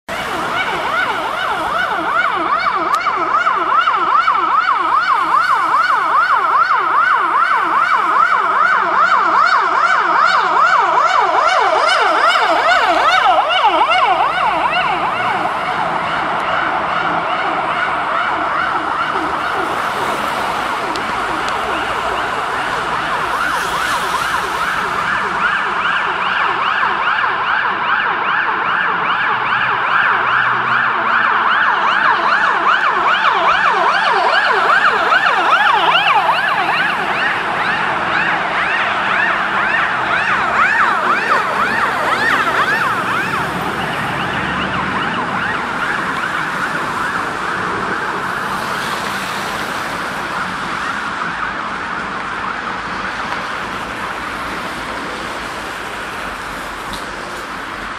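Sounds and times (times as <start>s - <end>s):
fire engine sirens wailing: 0.0s - 57.9s.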